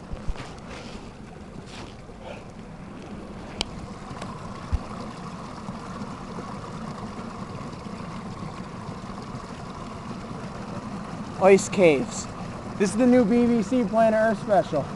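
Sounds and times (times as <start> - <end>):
stream water rushing: 0.0 - 14.9.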